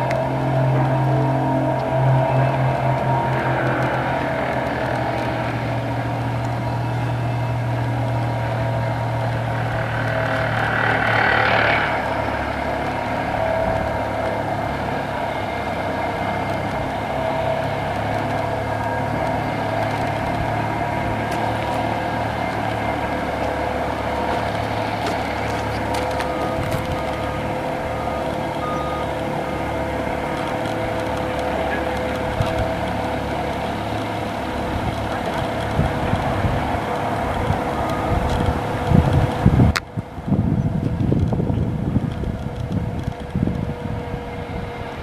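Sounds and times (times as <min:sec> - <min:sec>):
excavator whine and rumble: 0:00.0 - 0:45.0.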